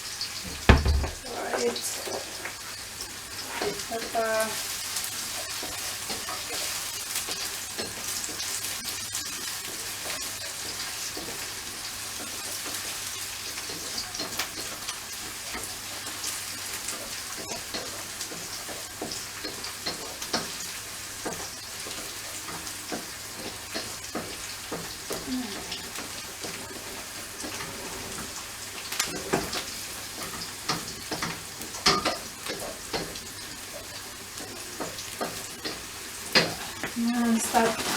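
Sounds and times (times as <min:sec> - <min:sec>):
food sizzling in hot oil: 0:00.0 - 0:37.9.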